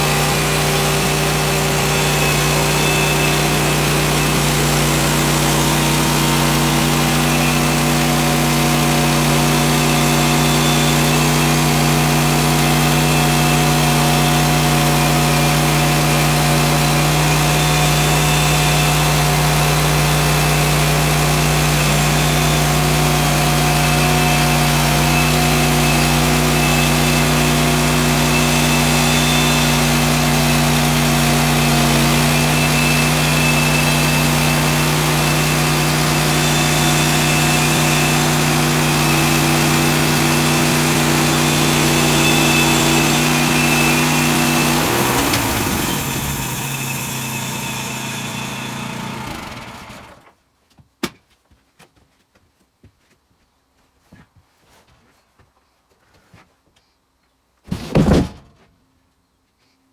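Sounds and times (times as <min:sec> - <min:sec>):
sawmill petrol engine running: 0:00.0 - 0:50.3.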